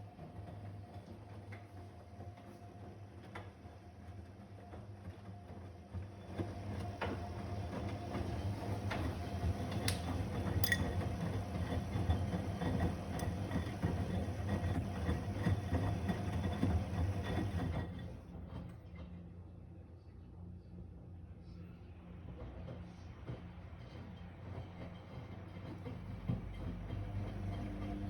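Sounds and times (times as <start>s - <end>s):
washing machine humming: 0.0s - 18.8s, 23.3s - 28.0s.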